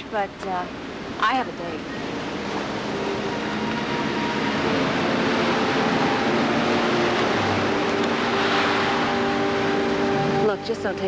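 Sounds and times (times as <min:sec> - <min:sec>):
soft background music tones: 0:00.0 - 0:11.0
outdoor rushing noise: 0:00.8 - 0:10.7.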